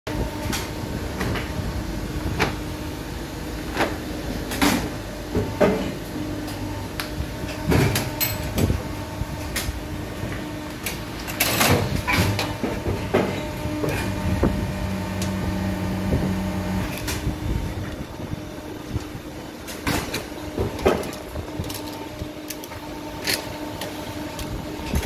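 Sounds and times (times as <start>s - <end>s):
moulding machine humming: 0.1s - 25.0s.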